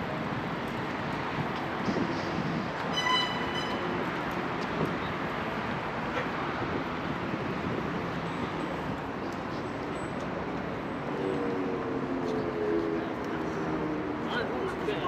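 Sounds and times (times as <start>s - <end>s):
city noise rumble: 0.0s - 15.0s.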